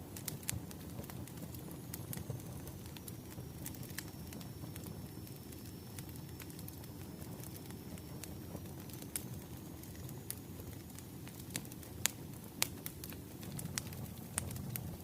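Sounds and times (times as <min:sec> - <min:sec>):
logs crackling and popping: 0:00.0 - 0:15.0
wood fire rumble: 0:00.0 - 0:15.0.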